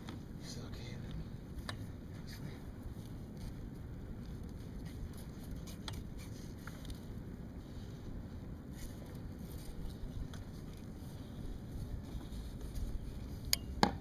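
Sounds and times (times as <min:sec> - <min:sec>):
low wind rumble on microphone: 0:00.0 - 0:14.0.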